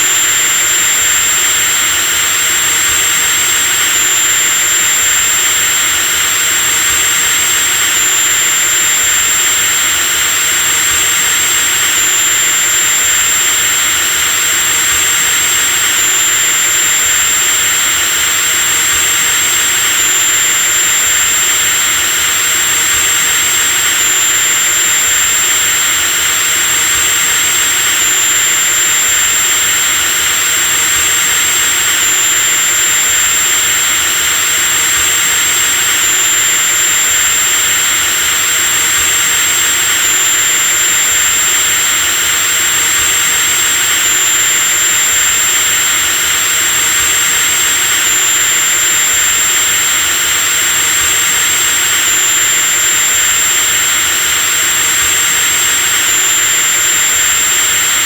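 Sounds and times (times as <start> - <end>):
electric drill whining: 0.0 - 58.0.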